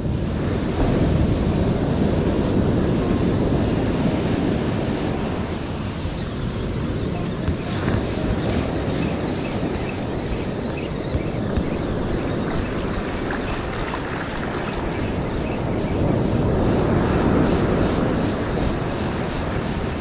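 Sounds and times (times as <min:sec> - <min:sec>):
ocean surf: 0:00.0 - 0:20.0
wind on microphone: 0:00.0 - 0:20.0.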